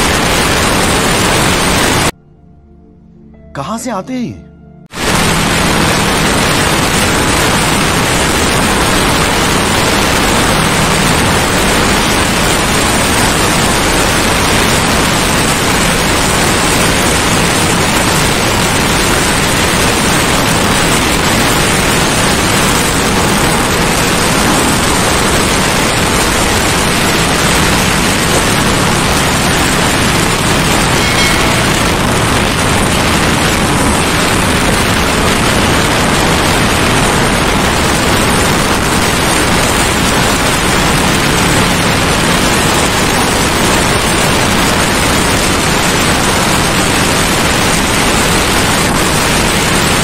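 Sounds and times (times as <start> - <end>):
wind rushing over microphone: 5.0 - 50.0.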